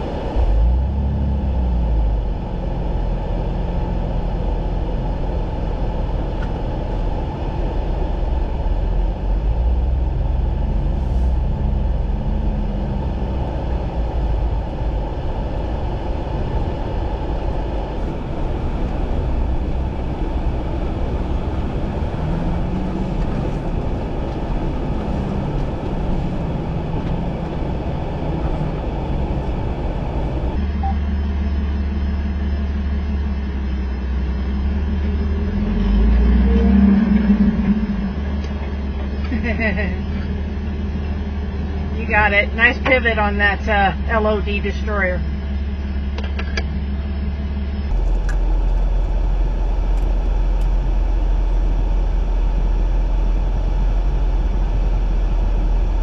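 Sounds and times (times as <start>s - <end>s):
off-road vehicle engine crawling: 0.0s - 56.0s.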